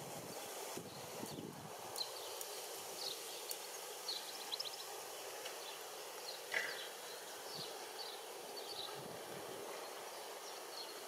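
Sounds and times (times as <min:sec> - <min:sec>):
steady outdoor hiss: 0:00.0 - 0:11.0
small birds chirping: 0:00.3 - 0:11.0.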